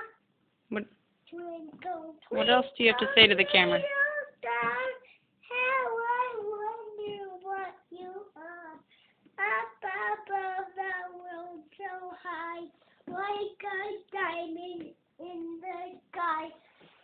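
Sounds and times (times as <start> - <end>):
young boy singing: 1.3 - 16.6.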